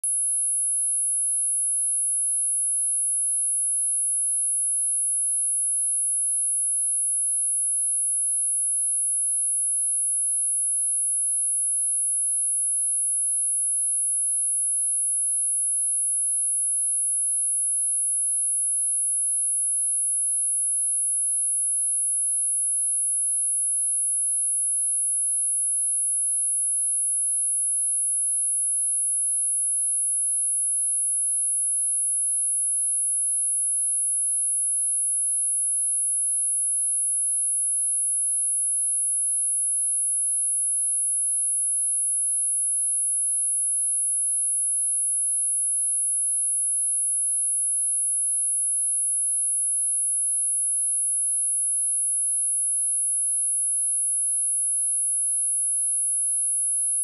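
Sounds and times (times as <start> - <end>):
high-pitched sine test tone: 0.0 - 57.0.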